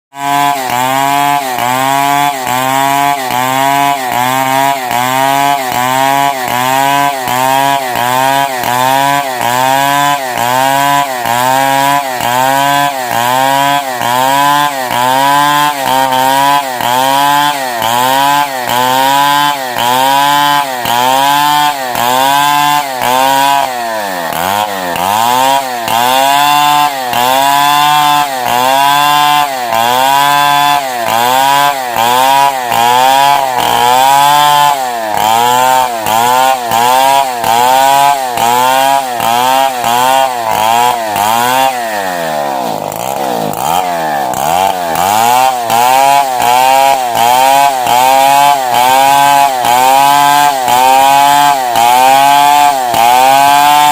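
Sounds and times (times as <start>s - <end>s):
chainsaw cutting log: 0.1s - 53.9s.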